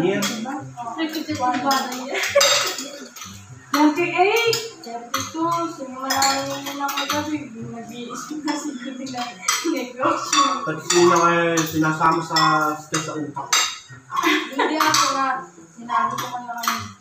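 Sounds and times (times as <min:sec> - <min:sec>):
cutlery clinking on plates: 0:00.0 - 0:07.4, 0:08.1 - 0:15.2, 0:16.0 - 0:17.0.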